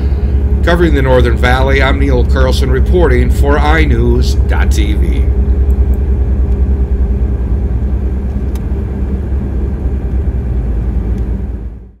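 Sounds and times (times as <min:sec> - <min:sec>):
car driving road noise: 0:00.0 - 0:11.9
faint hum: 0:00.0 - 0:12.0.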